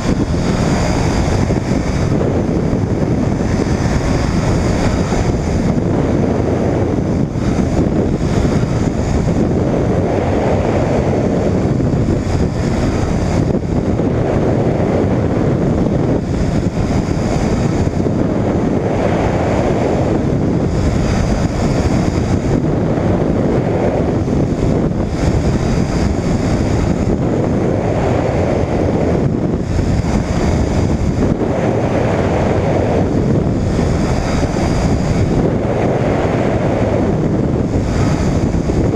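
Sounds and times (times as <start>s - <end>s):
engine and propeller drone: 0.0s - 38.9s
wind rushing over camera: 0.0s - 38.9s.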